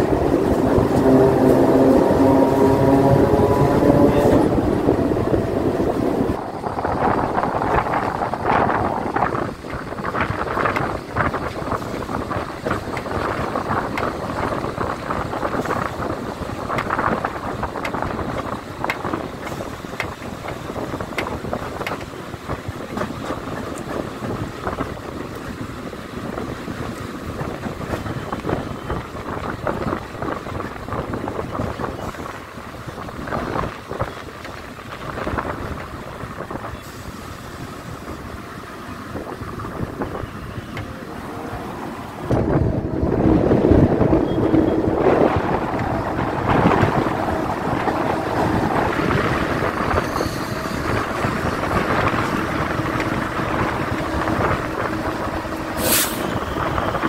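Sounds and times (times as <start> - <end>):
wheels clicking and knocking: 0.0 - 38.4, 42.2 - 55.8
electric train running: 0.0 - 57.0
wind buffeting the microphone: 0.0 - 57.0.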